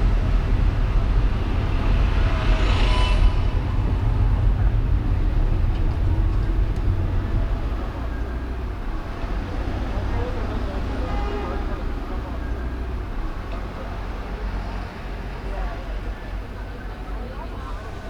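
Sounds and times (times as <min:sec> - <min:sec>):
traffic rumble of engines and tyres: 0:00.0 - 0:18.0.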